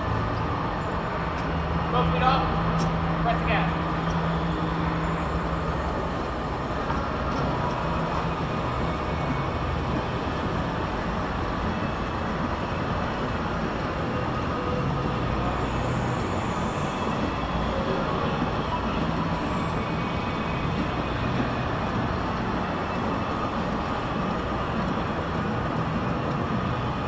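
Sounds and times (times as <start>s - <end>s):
go-kart motor and tyres rumbling: 0.0s - 27.0s.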